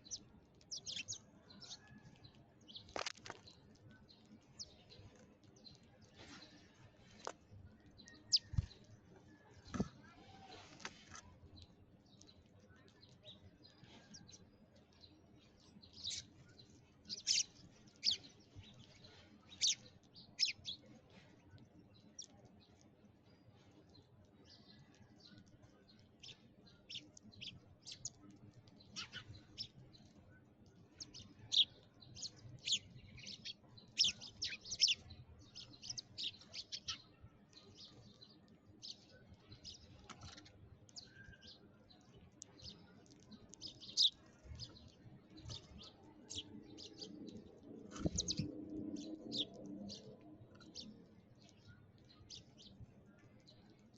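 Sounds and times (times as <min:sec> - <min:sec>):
sparrows chirping: 0:00.0 - 0:53.9.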